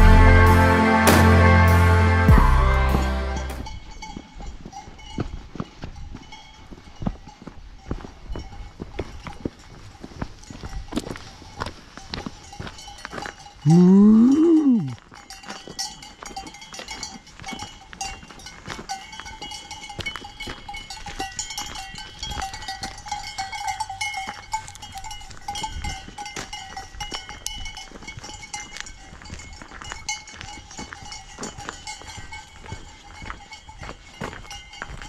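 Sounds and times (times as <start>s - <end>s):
cowbells clanking: 2.2s - 35.0s.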